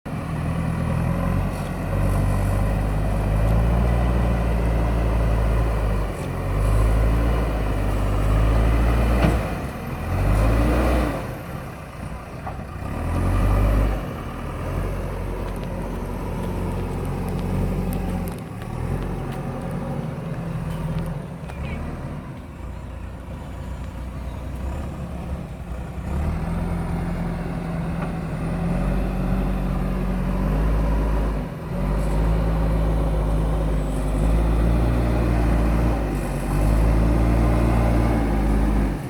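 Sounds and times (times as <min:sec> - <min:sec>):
diesel engine working: 0:00.1 - 0:39.0.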